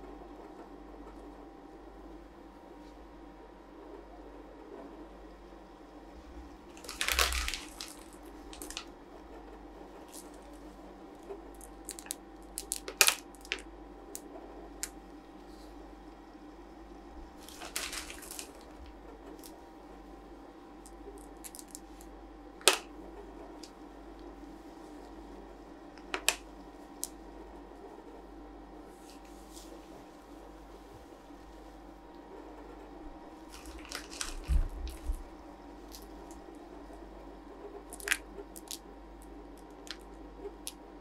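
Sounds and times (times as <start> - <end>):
faint machine hum: 0.0 - 41.0.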